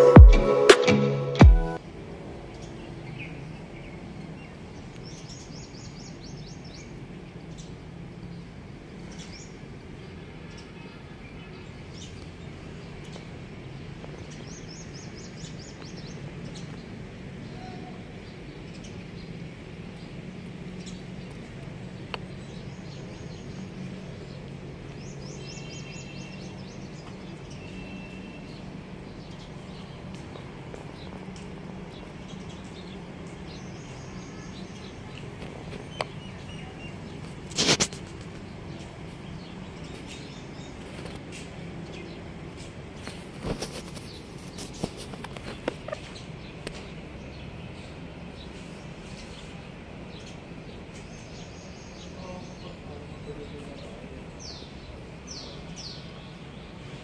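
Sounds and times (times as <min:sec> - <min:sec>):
birds chirping: 0:02.5 - 0:57.0.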